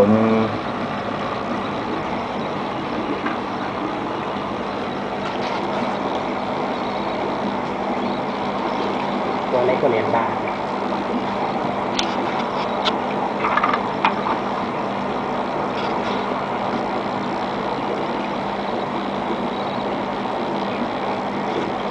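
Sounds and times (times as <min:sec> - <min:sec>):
mechanical hum and hiss: 0:00.0 - 0:21.9.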